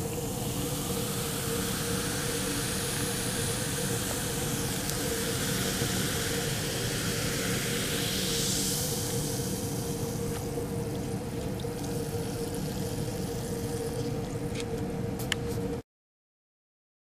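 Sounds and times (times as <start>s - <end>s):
drink fizzing in a cup: 0.0s - 14.5s.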